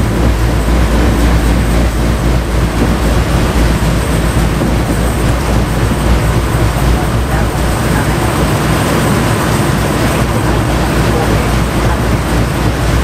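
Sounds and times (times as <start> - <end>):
bus engine drone: 0.0 - 13.0
tyres on wet slushy road: 0.0 - 13.0.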